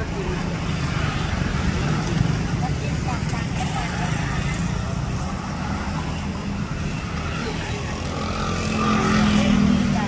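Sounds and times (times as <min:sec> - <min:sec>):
low rumble of road traffic: 0:00.0 - 0:10.0.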